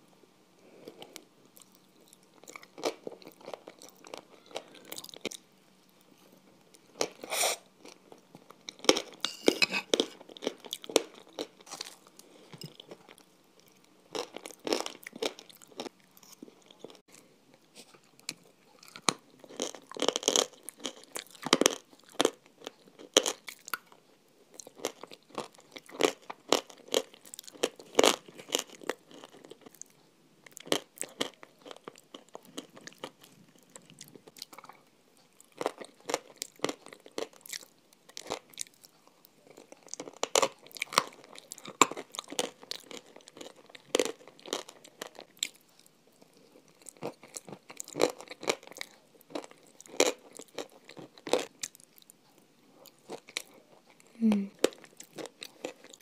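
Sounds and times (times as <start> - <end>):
crunching and chewing ice cream: 0.6 - 56.0.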